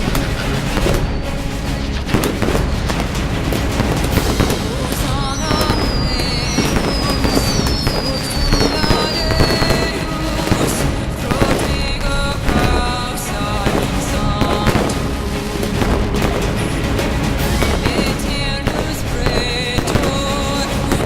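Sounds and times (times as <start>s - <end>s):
fireworks crackling: 0.0s - 21.0s
fireworks whistling: 0.0s - 21.0s.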